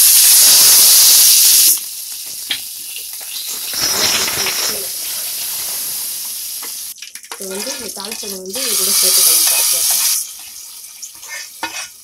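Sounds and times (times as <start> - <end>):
frying spices crackling: 0.0 - 12.0
spices sizzling in hot oil: 0.0 - 12.0.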